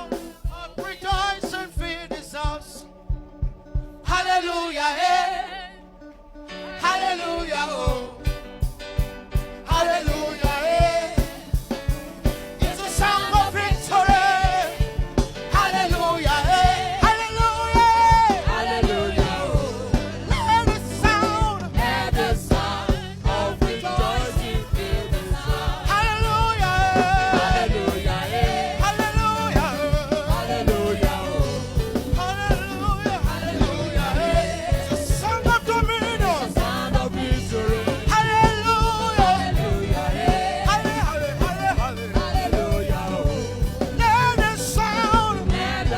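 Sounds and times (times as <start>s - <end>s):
steady drum beat: 0.0s - 4.6s, 6.8s - 45.9s
voices singing over a band: 0.0s - 45.9s.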